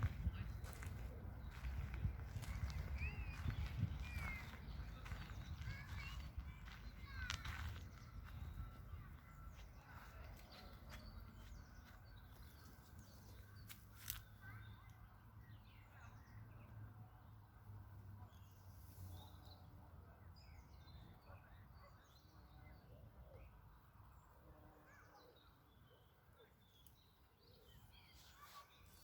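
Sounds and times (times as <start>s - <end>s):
small birds chirping and twittering: 0.0s - 29.0s.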